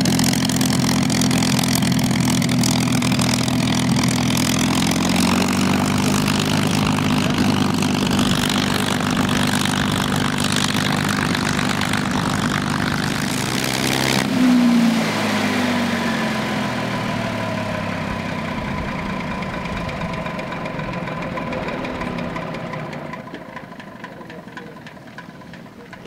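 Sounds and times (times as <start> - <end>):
aircraft engine running: 0.0 - 26.0
engine winding down whine: 0.0 - 26.0.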